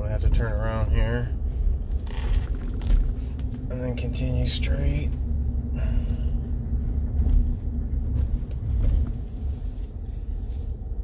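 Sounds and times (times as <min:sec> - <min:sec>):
pickup engine low rumble: 0:00.0 - 0:11.0.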